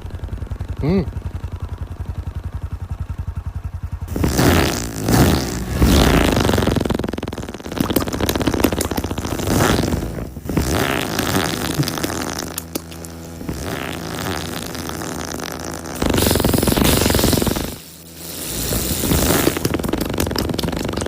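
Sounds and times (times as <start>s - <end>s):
dirt bike engine sputtering: 0.0s - 21.0s.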